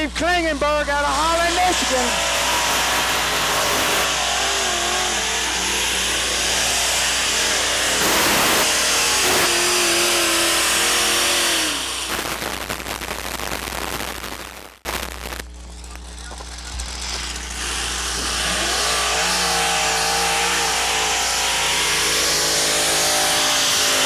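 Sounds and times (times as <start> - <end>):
tractor engines running under load: 0.0 - 12.1, 15.1 - 24.0.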